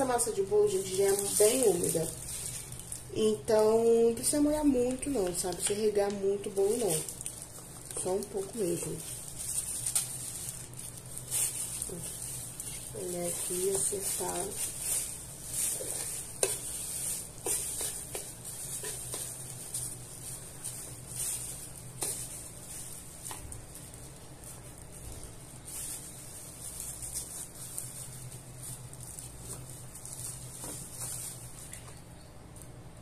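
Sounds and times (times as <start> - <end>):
plastic gloves crinkling: 0.0 - 33.0.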